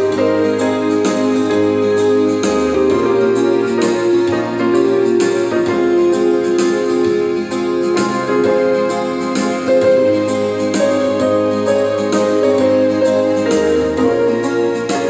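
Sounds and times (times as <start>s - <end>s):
electronic keyboard melody: 0.0s - 15.0s.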